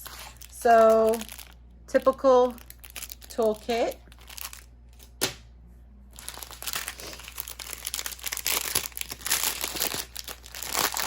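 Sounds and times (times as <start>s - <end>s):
plastic bags crinkling: 0.0s - 5.2s, 6.1s - 11.0s.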